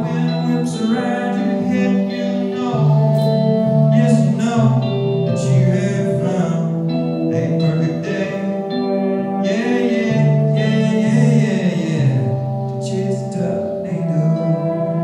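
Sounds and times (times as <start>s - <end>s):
guitar playing: 0.0s - 15.0s
man singing: 0.0s - 15.0s.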